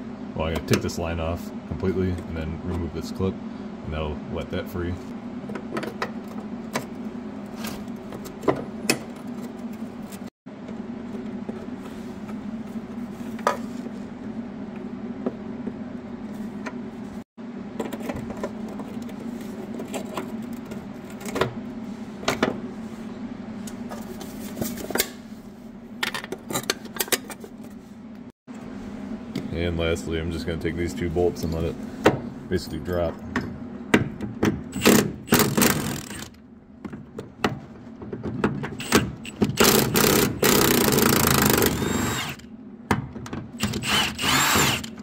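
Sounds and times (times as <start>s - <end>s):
steady low hum: 0.0s - 38.2s.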